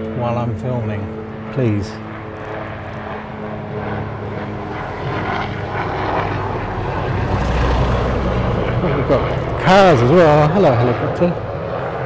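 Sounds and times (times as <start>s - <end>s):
plane engine drone: 0.0s - 12.0s.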